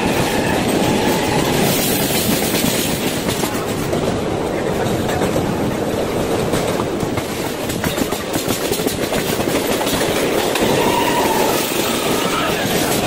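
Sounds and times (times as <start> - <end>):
train clatter: 0.0 - 13.0
train wheels rumbling on rails: 0.0 - 13.0.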